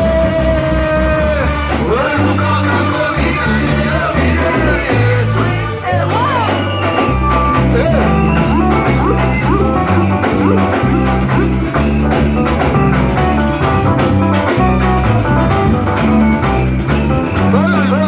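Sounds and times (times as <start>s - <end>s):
bass guitar: 0.0s - 18.0s
percussion: 0.0s - 18.0s
electric guitar lines: 2.5s - 18.0s.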